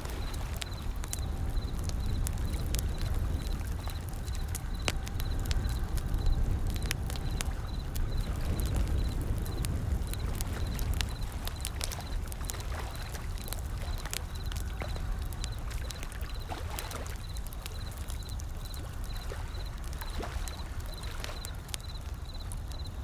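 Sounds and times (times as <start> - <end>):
ocean waves: 0.0 - 22.6
wood fire crackling and popping: 0.0 - 23.0.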